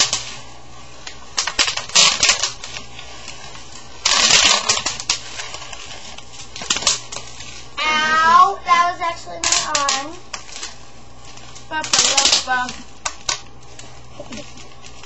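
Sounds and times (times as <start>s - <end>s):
bubble wrap popping: 0.0s - 7.8s, 9.4s - 15.0s.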